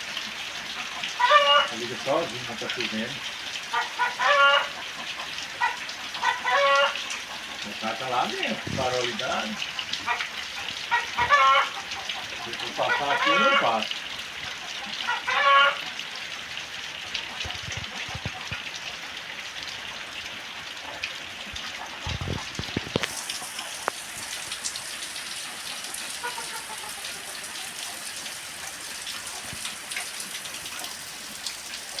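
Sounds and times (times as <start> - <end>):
rain patter: 0.0 - 32.0.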